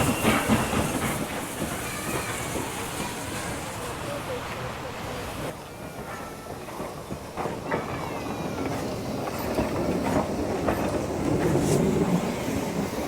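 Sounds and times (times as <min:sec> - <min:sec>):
wheels clicking over rail joints: 0:00.0 - 0:03.6, 0:05.5 - 0:13.0
steam train rumbling: 0:00.0 - 0:13.0.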